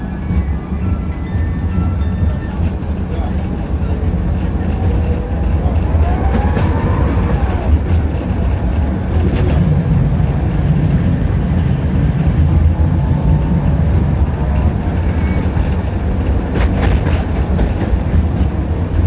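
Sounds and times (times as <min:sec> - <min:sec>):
tram wheels rumbling: 0:00.0 - 0:19.0.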